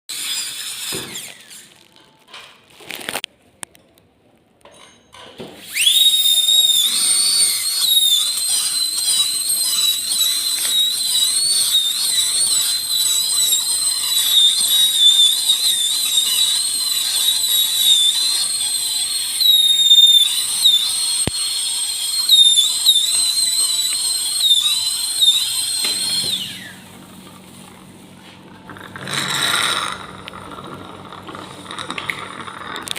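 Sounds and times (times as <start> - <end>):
dental drill whining: 0.1 - 1.8, 5.6 - 27.1, 28.7 - 32.9.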